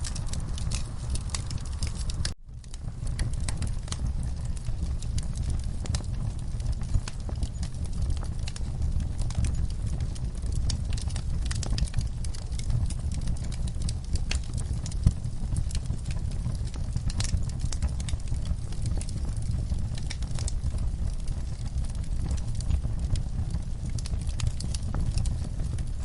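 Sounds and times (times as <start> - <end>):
logs crackling and popping: 0.0 - 26.0
low rumble of flames: 0.0 - 26.0.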